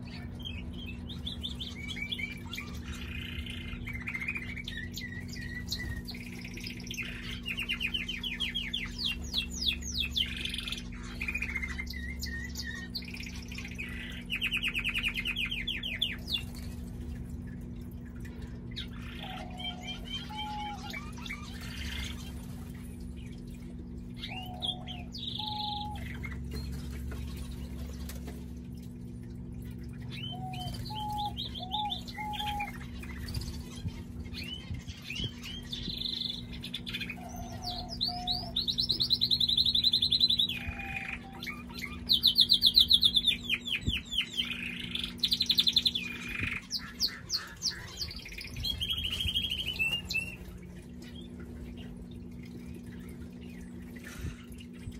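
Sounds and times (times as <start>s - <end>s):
canary singing trills: 0.0s - 16.9s, 18.5s - 28.2s, 29.9s - 54.9s.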